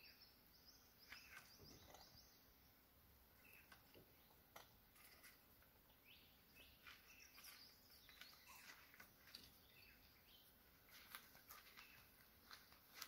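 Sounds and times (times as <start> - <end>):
faint bird chirps: 0.0 - 12.3.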